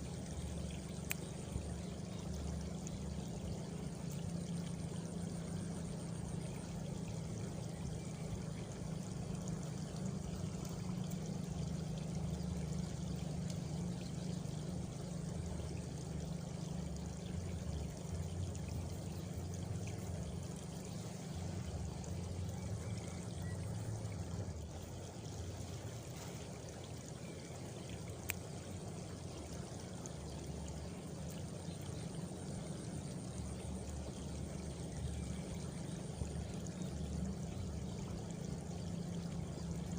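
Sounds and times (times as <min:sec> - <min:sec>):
faint cricket trill: 0:00.0 - 0:39.9
rushing water-like noise: 0:00.0 - 0:39.9.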